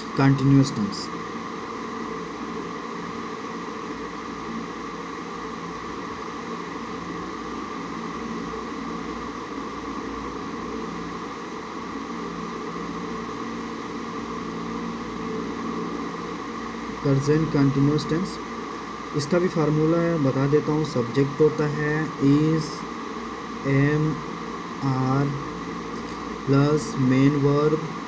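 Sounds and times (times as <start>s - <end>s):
motorised appliance humming: 0.0s - 28.0s.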